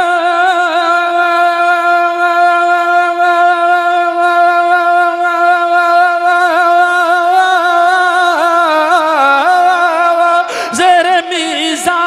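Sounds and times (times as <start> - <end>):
man singing through a microphone: 0.0 - 12.0.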